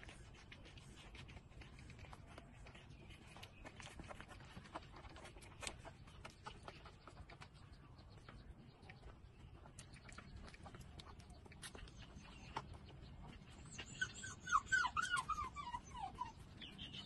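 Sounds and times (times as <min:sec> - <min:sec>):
puppies suckling: 0:00.0 - 0:17.0.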